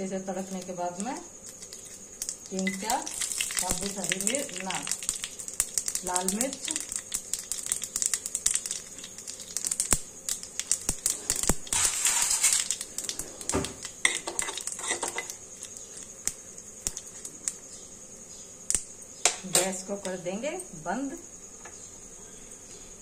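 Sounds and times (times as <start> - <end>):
mustard seeds popping in oil: 0.0 - 21.9
high sizzle: 0.0 - 23.0.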